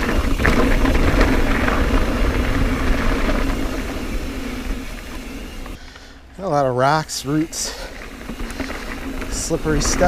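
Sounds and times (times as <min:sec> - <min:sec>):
bike tyres rumbling on dirt: 0:00.0 - 0:10.0
wheels knocking on roots: 0:00.0 - 0:10.0
wind: 0:00.0 - 0:10.0.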